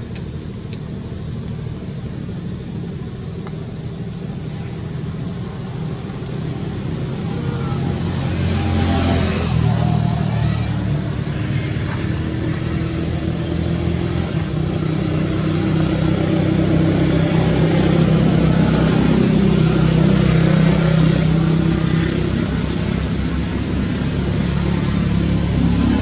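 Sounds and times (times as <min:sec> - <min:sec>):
engine humming: 0:00.0 - 0:26.0.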